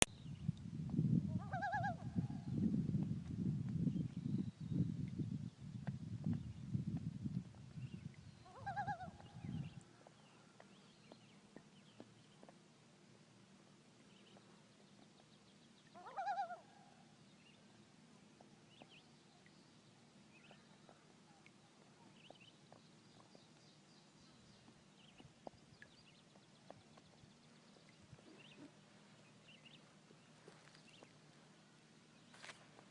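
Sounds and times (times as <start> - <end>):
faint lake background: 0.0 - 32.9.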